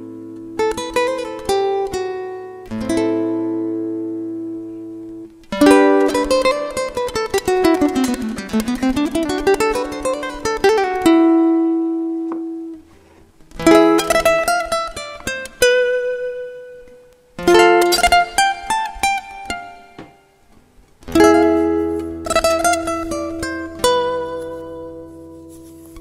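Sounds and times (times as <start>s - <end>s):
solo guitar: 0.0s - 26.0s.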